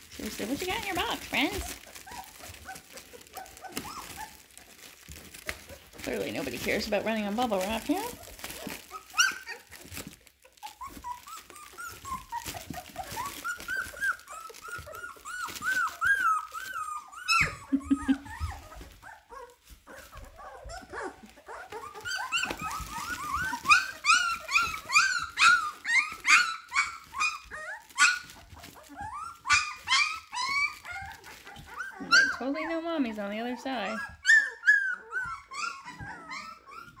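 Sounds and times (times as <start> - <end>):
puppies whining and squealing: 0.0 - 37.0.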